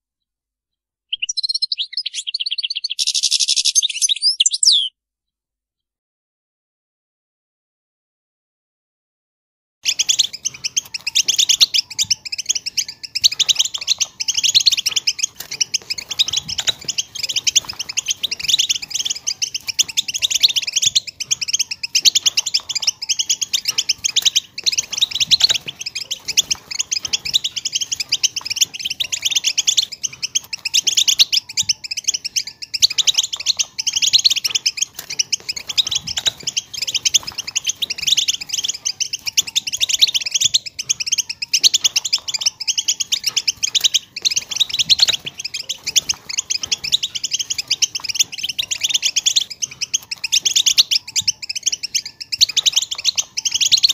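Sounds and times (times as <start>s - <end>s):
goldfinch twittering song: 1.1s - 4.9s, 9.8s - 53.9s.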